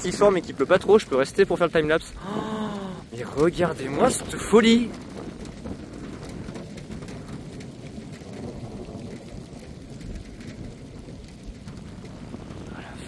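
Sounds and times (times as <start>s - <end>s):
light rain falling: 0.0s - 13.0s
thunder rumbling: 0.0s - 13.0s.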